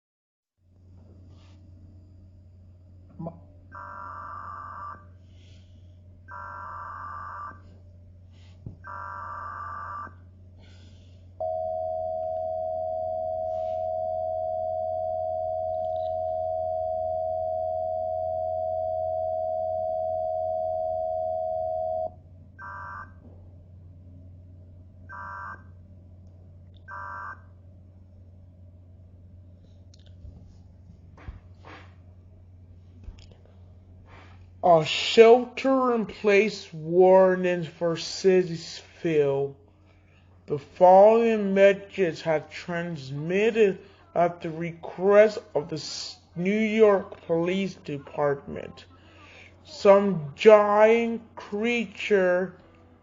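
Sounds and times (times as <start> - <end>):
low steady hum: 0.6 - 53.0.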